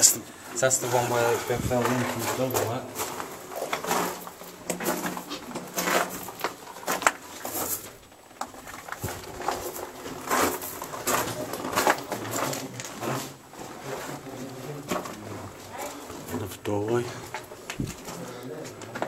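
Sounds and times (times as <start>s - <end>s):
footsteps on gritty debris: 0.7s - 19.0s.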